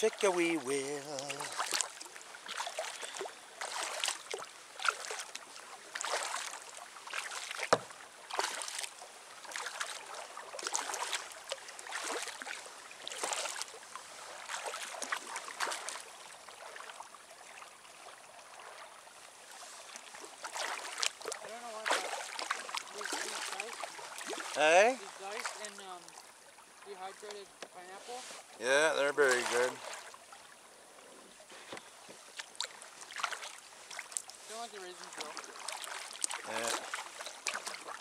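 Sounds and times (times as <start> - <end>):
paddle splashing in water: 0.0 - 30.6, 31.3 - 38.0.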